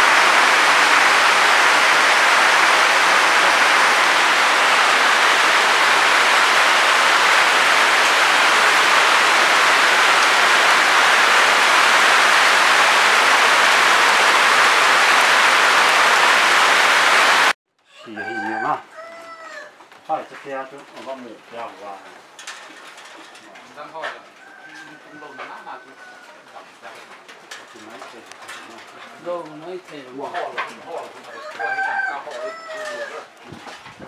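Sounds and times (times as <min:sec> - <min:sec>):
heavy rain and hail on roofs: 0:00.0 - 0:17.6, 0:19.8 - 0:34.0.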